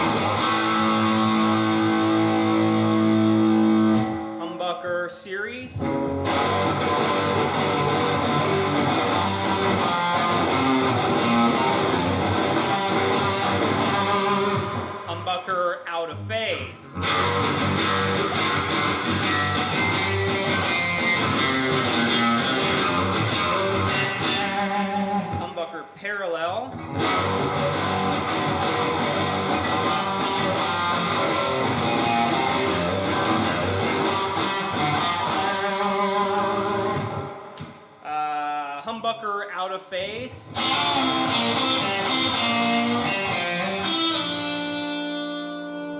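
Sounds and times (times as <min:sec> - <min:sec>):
distorted electric guitar chords: 0:00.0 - 0:04.6, 0:05.8 - 0:38.0, 0:40.4 - 0:45.9.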